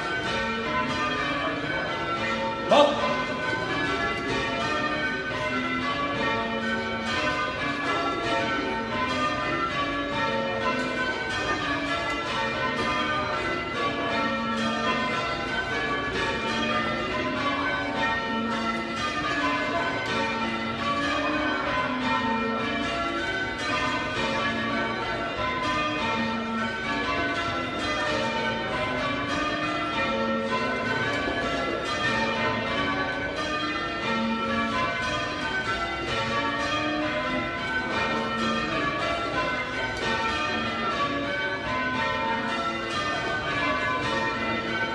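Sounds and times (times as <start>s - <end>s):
church bells change ringing: 0.0s - 44.9s.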